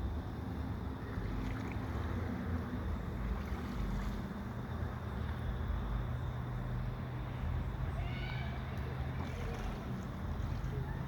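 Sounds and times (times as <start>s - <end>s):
river water: 0.0s - 11.0s.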